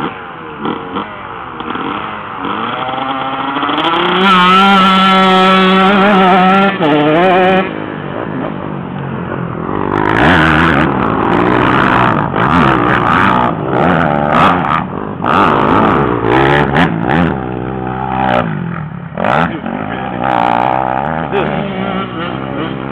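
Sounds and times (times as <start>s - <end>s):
two-stroke motorbike engine revving: 0.0s - 22.9s.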